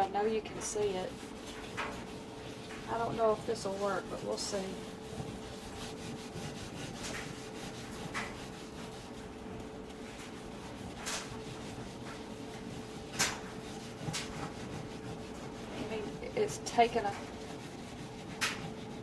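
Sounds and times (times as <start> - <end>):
steel wool scrubbing glass: 0.0 - 19.0.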